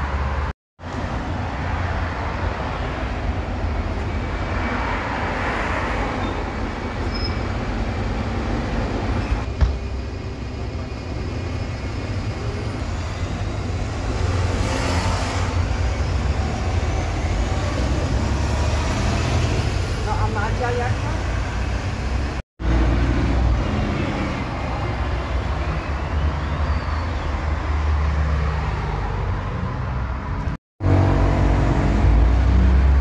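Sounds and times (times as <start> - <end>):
bus engine rumble: 0.0 - 26.8.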